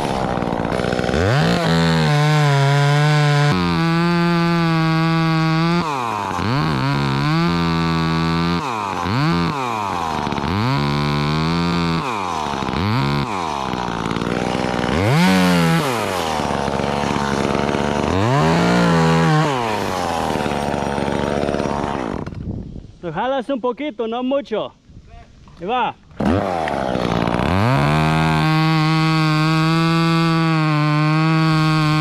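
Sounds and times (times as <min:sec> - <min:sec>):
chainsaw engine revving: 0:00.0 - 0:22.4, 0:26.2 - 0:32.0.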